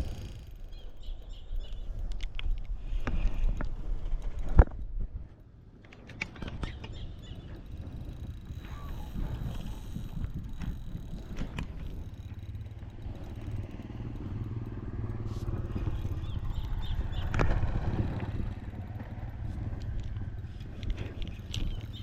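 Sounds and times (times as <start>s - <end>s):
small engine running: 0.0s - 2.1s, 6.3s - 22.0s
scattered clicks: 0.0s - 4.8s, 5.8s - 22.0s.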